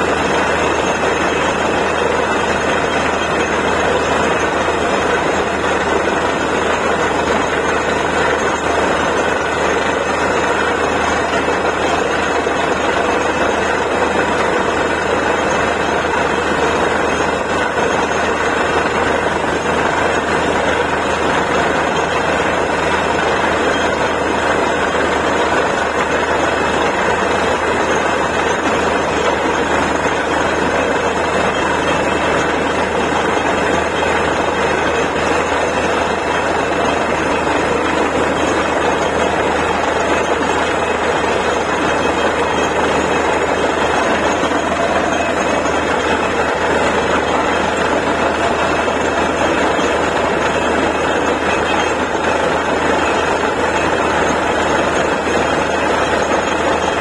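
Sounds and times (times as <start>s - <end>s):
drilling rig engine droning: 0.0s - 57.0s.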